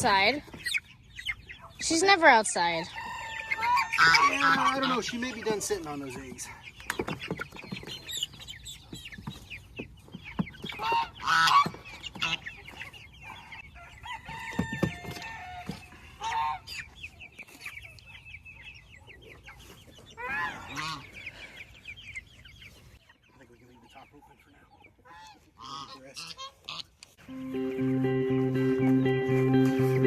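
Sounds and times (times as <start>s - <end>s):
chickens clucking: 0.0s - 30.0s
drawn-out chicken calls: 0.0s - 30.0s
young birds peeping: 0.0s - 30.0s.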